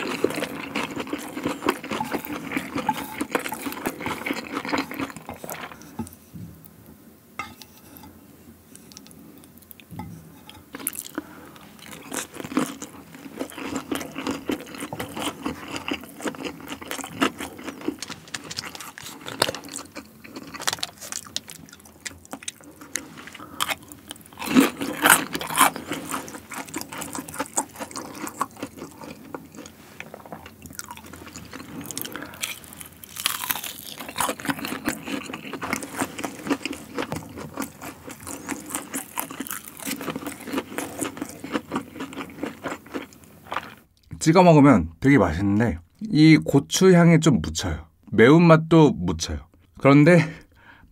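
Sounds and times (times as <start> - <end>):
chewing crunchy fried chicken: 0.0 - 6.2, 8.8 - 44.1.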